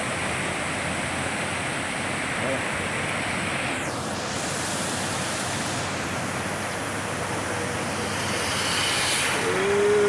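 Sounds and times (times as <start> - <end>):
flooded river roaring: 0.0 - 10.0.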